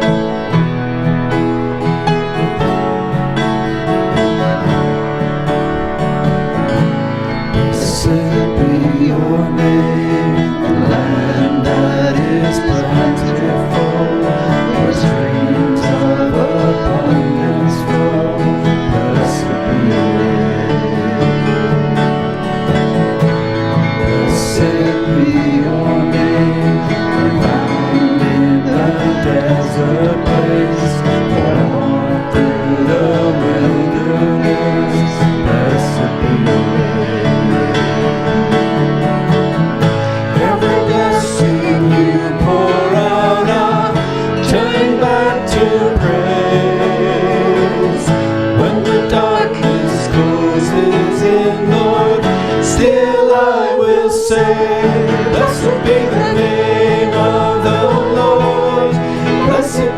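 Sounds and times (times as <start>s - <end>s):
plucked acoustic guitar music: 0.0s - 59.9s
person singing: 1.9s - 59.9s.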